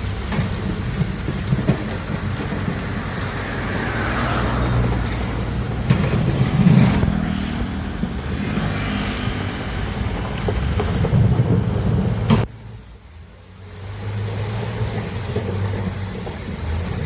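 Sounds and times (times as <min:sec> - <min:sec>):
diesel earthmoving machinery drone: 0:00.0 - 0:17.0.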